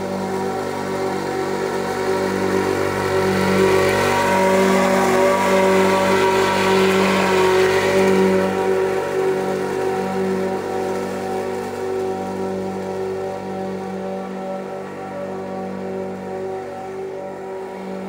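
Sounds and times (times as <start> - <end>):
lawn tractor engine running: 0.0 - 18.0.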